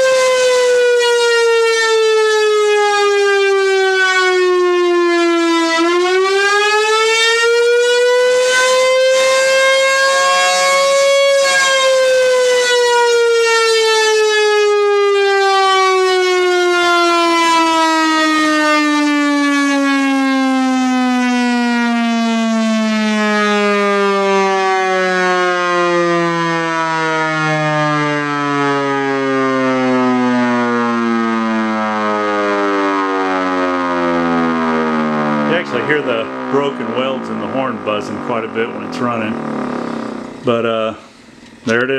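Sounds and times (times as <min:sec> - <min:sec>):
lower second siren tone: 0:00.0 - 0:41.7
siren horn buzzing: 0:00.0 - 0:41.9
siren wailing: 0:00.0 - 0:41.9.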